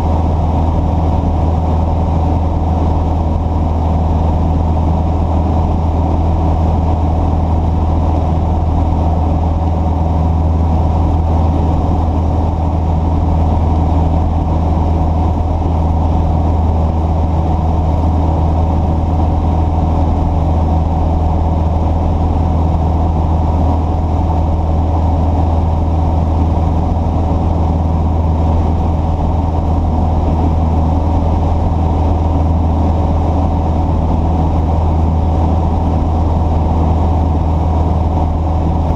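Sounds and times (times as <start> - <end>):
steady low engine drone: 0.0 - 38.9.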